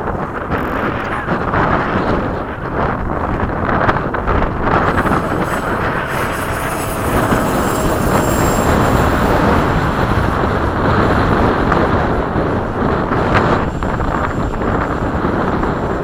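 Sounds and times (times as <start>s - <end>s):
electric ducted fan whine: 0.0s - 16.0s
wind noise on microphone: 0.0s - 16.0s.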